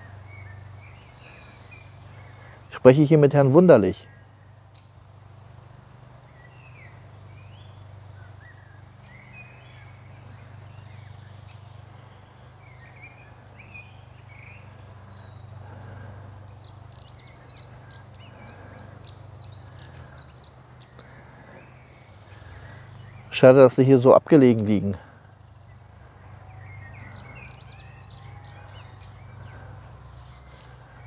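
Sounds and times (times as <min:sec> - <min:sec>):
songbirds chirping and singing: 0:00.0 - 0:31.0.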